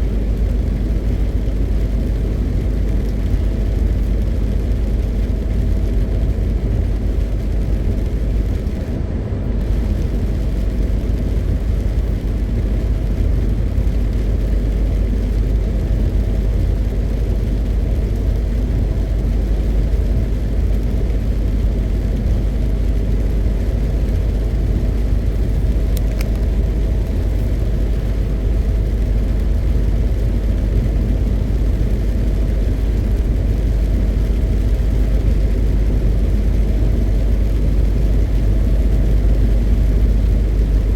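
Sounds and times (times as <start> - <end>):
truck diesel engine rumble: 0.0 - 40.9.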